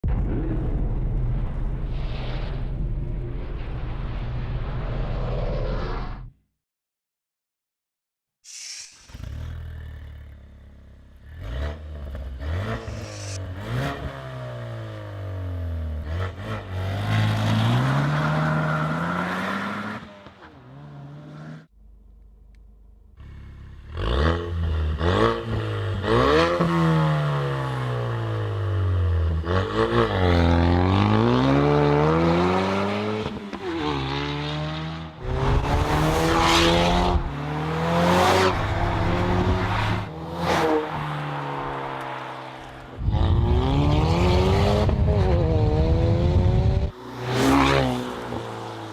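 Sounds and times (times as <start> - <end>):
car engine revving: 9.0 - 48.9.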